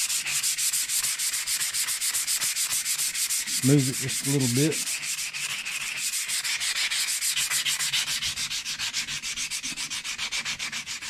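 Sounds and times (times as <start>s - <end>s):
sandpaper rubbing on metal: 0.0s - 11.0s.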